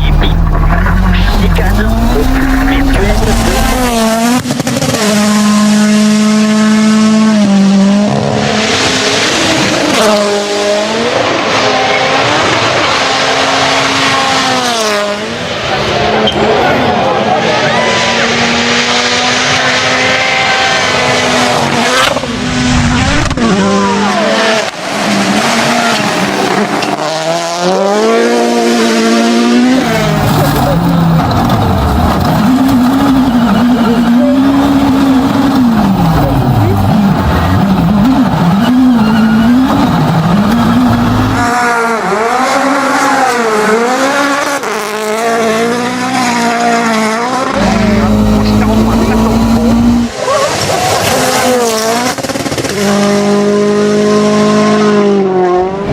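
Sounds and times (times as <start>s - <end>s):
rally car engine revving: 0.0s - 55.9s
tyre and road noise: 0.0s - 55.9s.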